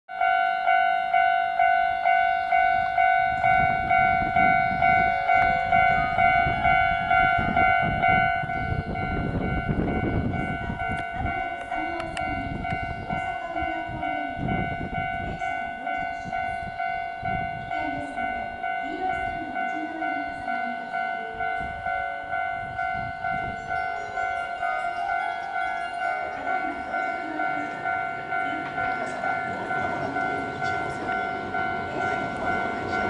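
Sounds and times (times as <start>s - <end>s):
electric train rumbling on rails: 0.1s - 33.0s
level crossing warning bell: 0.1s - 33.0s.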